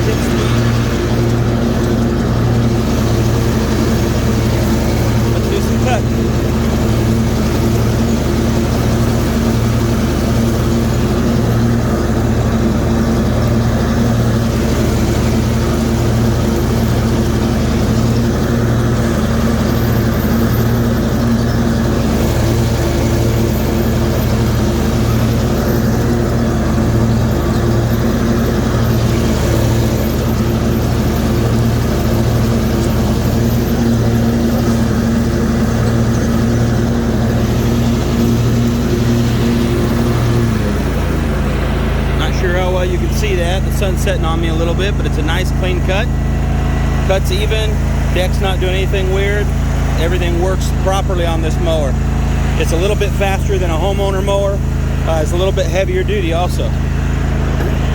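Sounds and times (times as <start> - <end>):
mower blades cutting grass: 0.0 - 57.9
riding mower engine running: 0.0 - 57.9.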